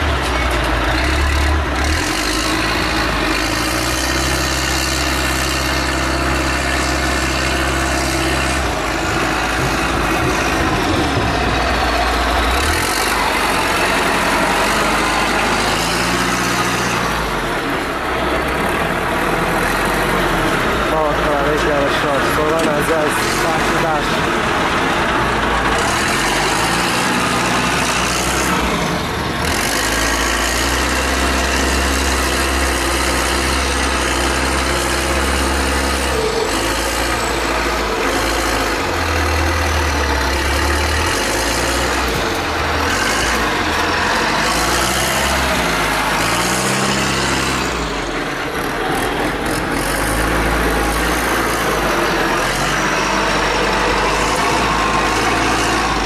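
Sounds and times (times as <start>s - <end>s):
wheel loader diesel engine revving: 0.0s - 56.0s.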